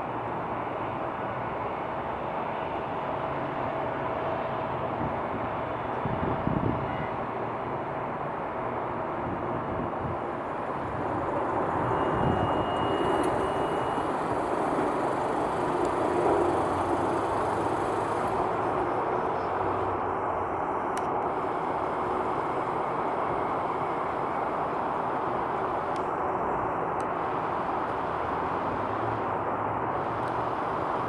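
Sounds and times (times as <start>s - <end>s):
jet airliner engine noise: 0.0s - 31.0s.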